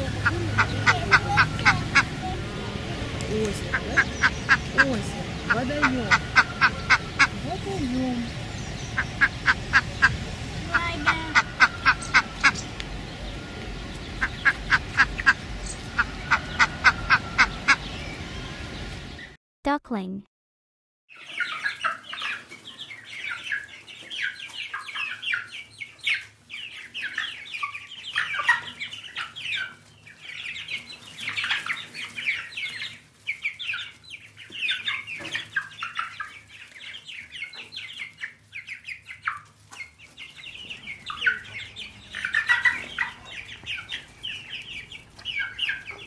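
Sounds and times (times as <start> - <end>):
ducklings peeping: 0.0 - 19.4, 21.1 - 46.0.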